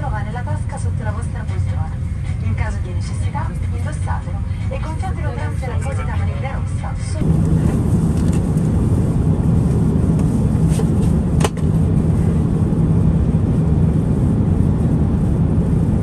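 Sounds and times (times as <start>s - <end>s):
airliner cabin rush: 0.0s - 16.0s
low drone: 0.0s - 16.0s.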